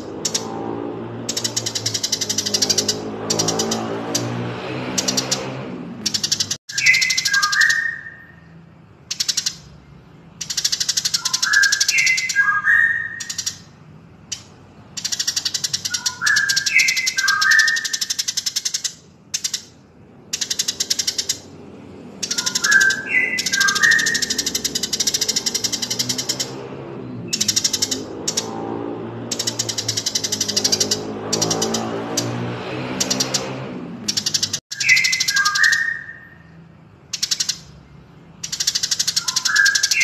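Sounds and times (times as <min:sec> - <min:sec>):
rapid high bird chattering: 0:00.0 - 0:00.6, 0:01.2 - 0:21.5, 0:22.1 - 0:28.7, 0:29.3 - 0:40.0.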